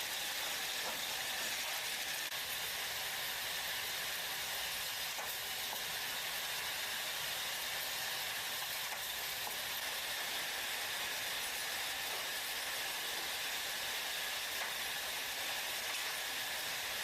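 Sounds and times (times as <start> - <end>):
factory machinery hissing: 0.0 - 17.0.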